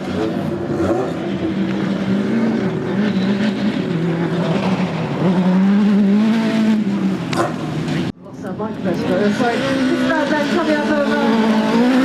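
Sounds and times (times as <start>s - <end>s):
buggy engine revving hard: 0.0s - 8.1s, 9.0s - 12.0s.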